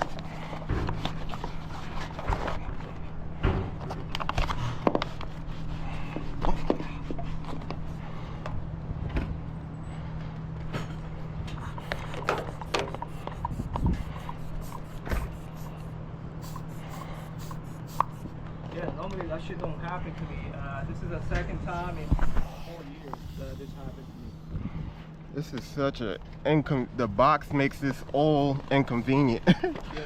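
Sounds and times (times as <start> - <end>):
steady low hum: 0.0 - 18.8, 19.4 - 29.7.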